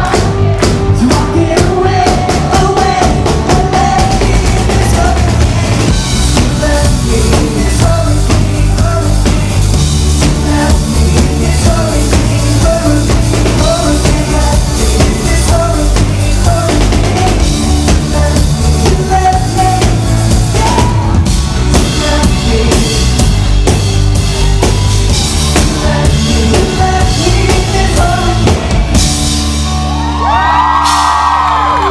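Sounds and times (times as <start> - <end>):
person singing: 0.0 - 24.8, 25.4 - 29.4
live pop-rock band: 0.0 - 31.9.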